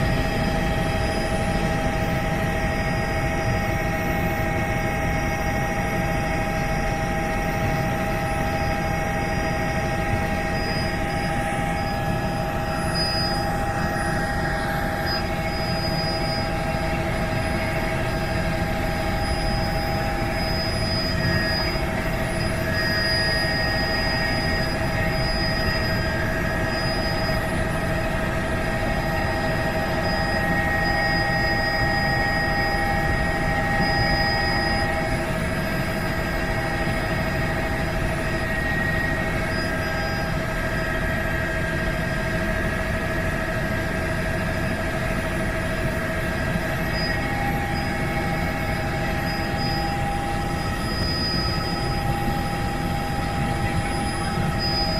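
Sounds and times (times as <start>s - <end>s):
helicopter flying: 0.0s - 54.9s.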